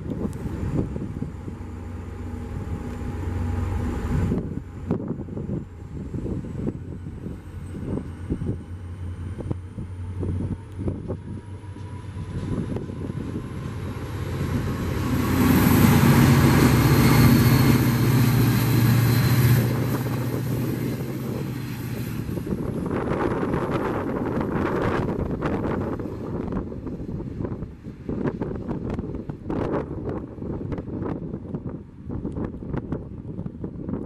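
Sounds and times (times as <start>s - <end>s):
diesel train passing: 0.0s - 34.0s.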